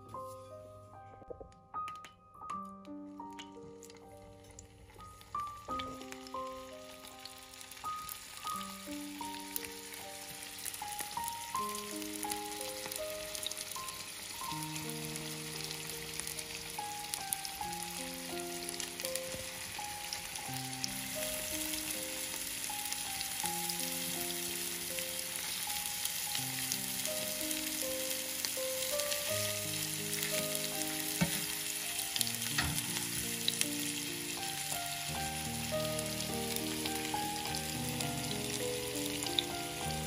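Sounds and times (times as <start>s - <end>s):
soft background music: 0.0s - 40.0s
meatballs sizzling in oil: 3.3s - 40.0s.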